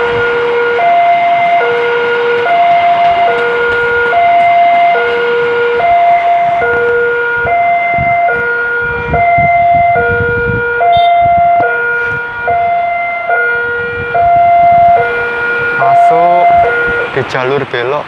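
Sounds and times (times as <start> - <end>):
level crossing two-tone alarm: 0.0 - 17.2
low rumble of passing train: 0.0 - 18.0.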